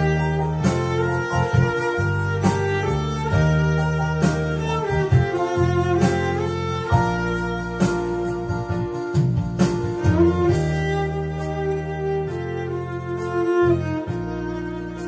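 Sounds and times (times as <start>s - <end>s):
cello bowing a melody: 0.0s - 15.0s
electronic keyboard chords: 0.0s - 15.0s
steady beat: 0.0s - 15.0s.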